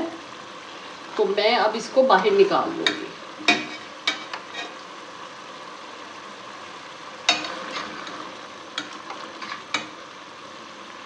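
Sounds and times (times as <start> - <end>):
steady sizzle: 0.0 - 11.0.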